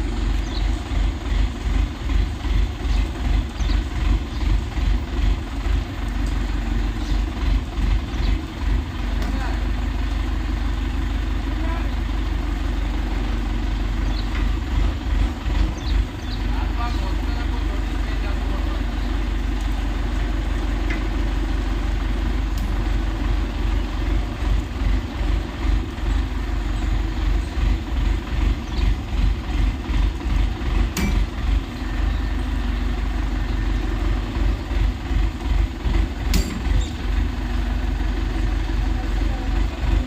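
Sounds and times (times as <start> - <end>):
engine rumbling: 0.0 - 40.0.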